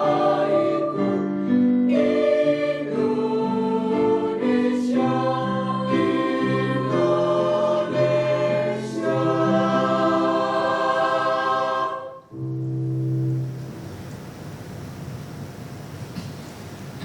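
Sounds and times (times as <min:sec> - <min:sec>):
choir singing sustained chords: 0:00.0 - 0:14.3.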